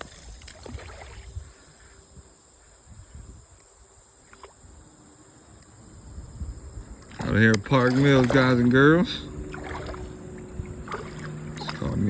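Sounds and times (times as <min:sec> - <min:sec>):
high insect drone: 0:00.0 - 0:12.0
wind rumble on microphone: 0:00.0 - 0:12.0.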